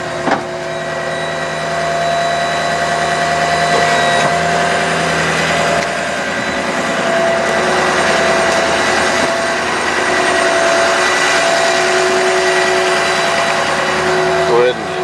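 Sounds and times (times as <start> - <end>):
hydraulic pump whine: 0.0 - 15.0
truck engine idling: 0.0 - 15.0.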